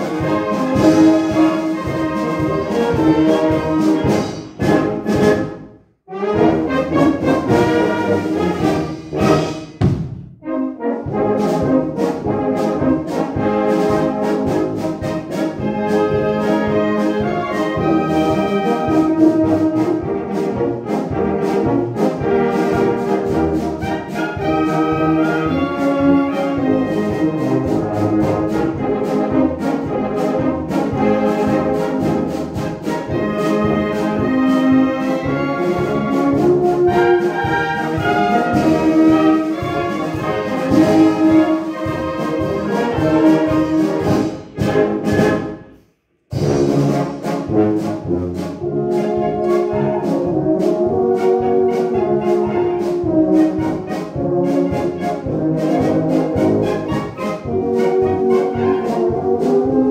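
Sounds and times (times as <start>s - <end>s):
wind band playing a polka: 0.0s - 45.7s, 46.3s - 59.9s.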